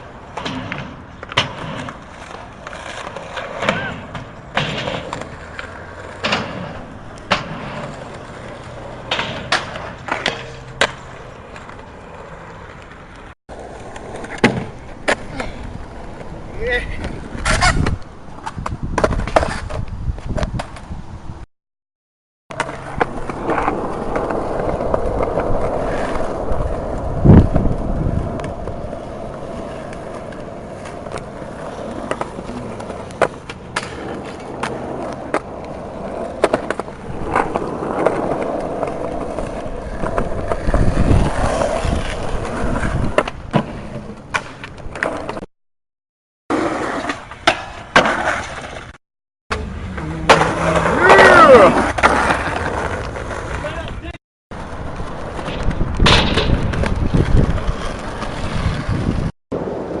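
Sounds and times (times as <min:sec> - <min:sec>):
skateboard wheels on rough pavement: 0:00.0 - 0:21.4, 0:22.5 - 0:45.5, 0:46.5 - 1:00.0
skateboard clacking on ground: 0:00.2 - 0:20.9, 0:22.5 - 0:45.4, 0:46.5 - 0:48.9, 0:49.5 - 1:00.0.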